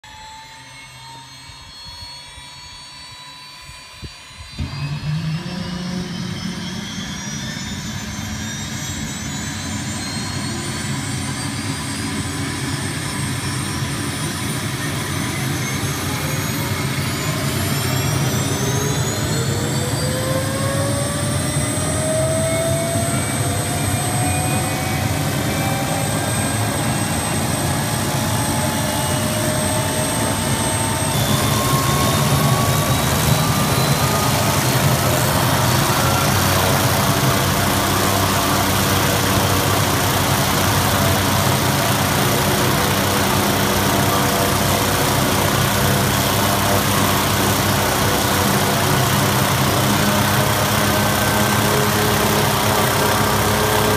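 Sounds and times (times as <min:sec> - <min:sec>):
helicopter turbine spooling up: 0:00.0 - 0:53.9.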